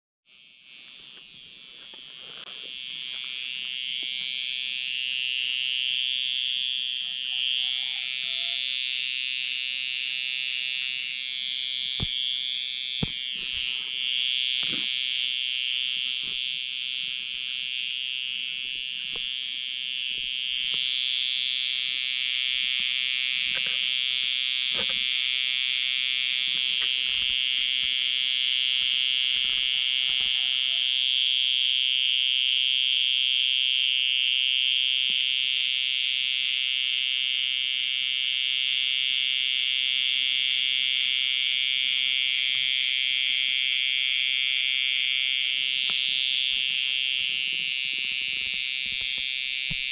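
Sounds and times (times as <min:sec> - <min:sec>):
cicada buzzing: 0:00.3 - 0:49.9.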